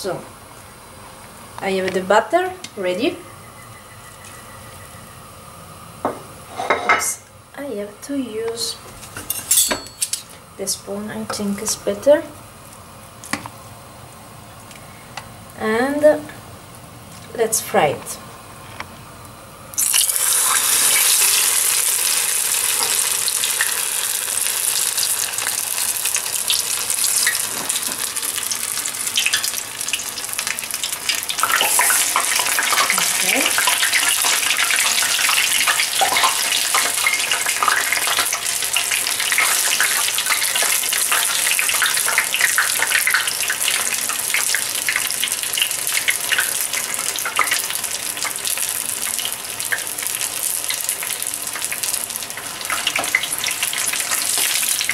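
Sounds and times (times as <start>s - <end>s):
battered leaves deep-frying in oil: 0.0s - 54.9s.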